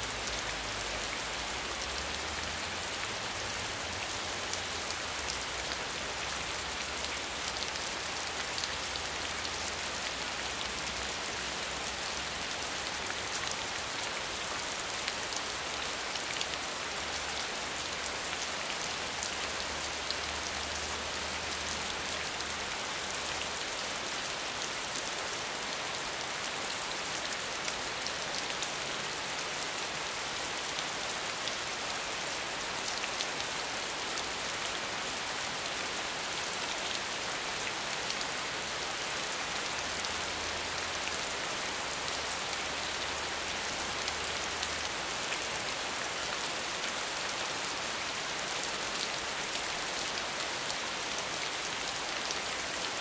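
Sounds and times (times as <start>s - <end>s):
rain hiss and patter: 0.0s - 53.0s.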